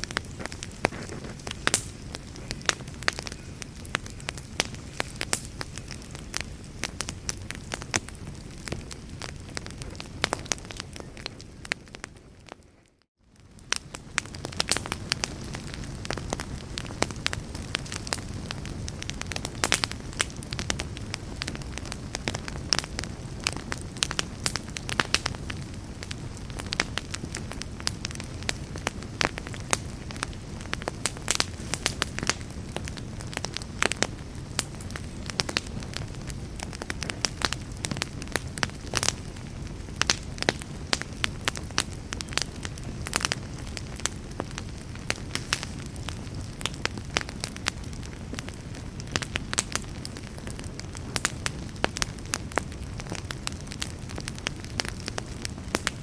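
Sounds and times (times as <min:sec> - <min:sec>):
burning wood crackling and popping: 0:00.0 - 0:56.0
rush of flames: 0:00.0 - 0:56.0.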